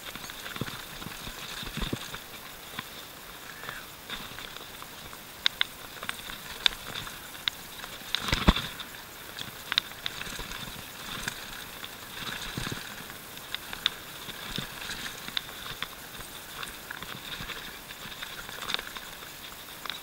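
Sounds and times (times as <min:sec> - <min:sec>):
bike rattling over stones: 0:00.0 - 0:20.0
tyre and trail noise: 0:00.0 - 0:20.0.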